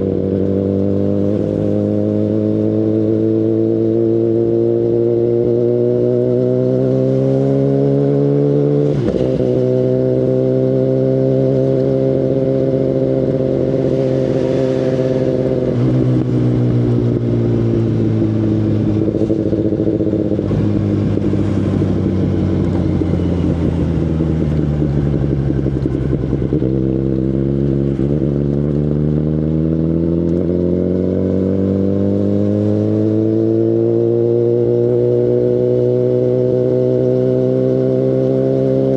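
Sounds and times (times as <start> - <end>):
motorcycle exhaust while riding: 0.0 - 38.9.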